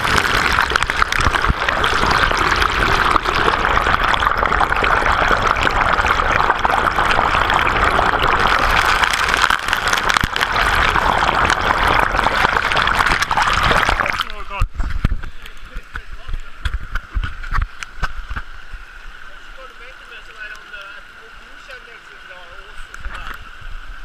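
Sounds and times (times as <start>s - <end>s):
water rushing through sluice box: 0.0s - 23.4s.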